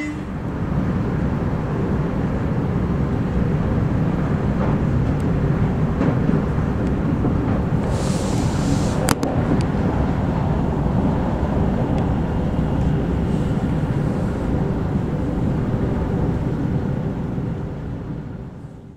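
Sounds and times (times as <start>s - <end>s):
train rumbling inside carriage: 0.0s - 18.9s.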